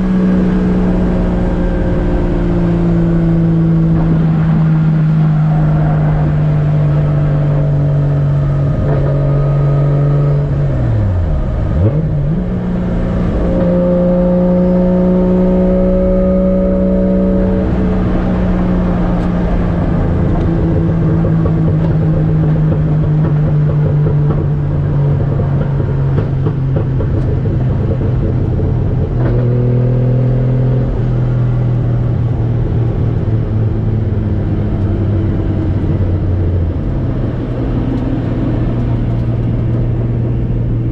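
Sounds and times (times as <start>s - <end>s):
car engine running while driving: 0.0s - 40.9s.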